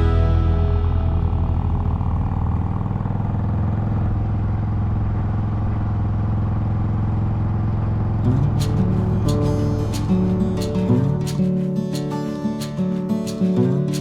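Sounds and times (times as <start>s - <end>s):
motorcycle engine drone: 0.0s - 11.3s
road and wind noise: 0.0s - 14.0s.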